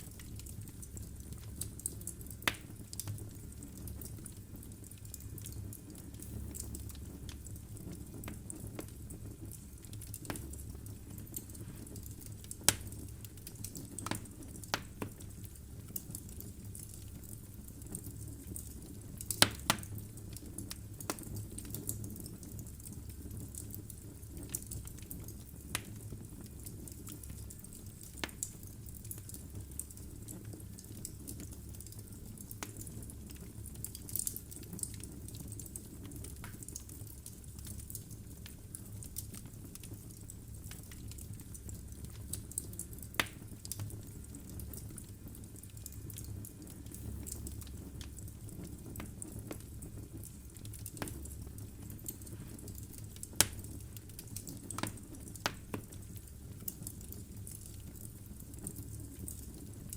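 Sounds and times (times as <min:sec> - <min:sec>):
fire crackling and popping: 0:00.0 - 0:59.9
low steady fire rumble: 0:00.0 - 0:59.9.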